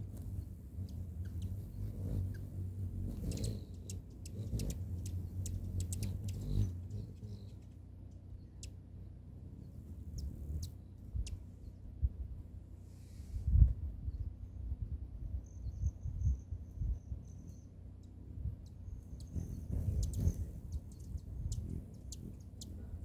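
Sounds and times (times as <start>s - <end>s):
hummingbird wings humming: 0.0s - 13.2s, 15.5s - 23.0s.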